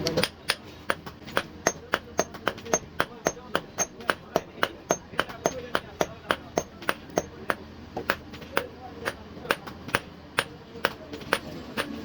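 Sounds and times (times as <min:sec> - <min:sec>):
hammer beating metal on anvil: 0:00.0 - 0:12.0.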